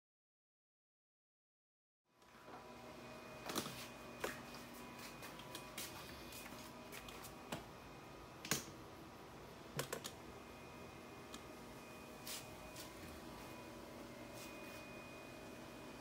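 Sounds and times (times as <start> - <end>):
faint steady hum: 2.1 - 16.0.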